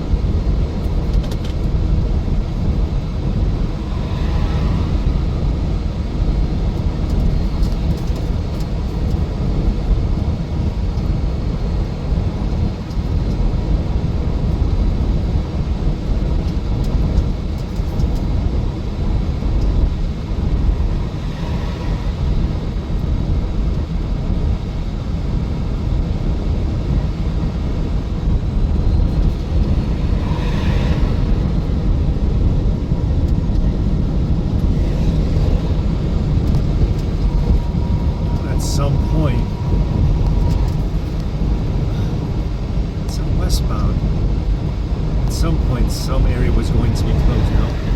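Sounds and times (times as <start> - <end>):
vehicle road and engine rumble: 0.0 - 47.9.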